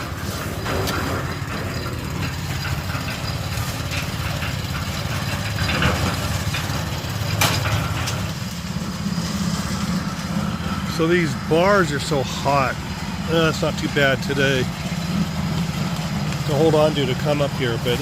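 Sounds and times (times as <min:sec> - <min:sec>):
concrete mixer engine chugging: 0:00.0 - 0:18.0.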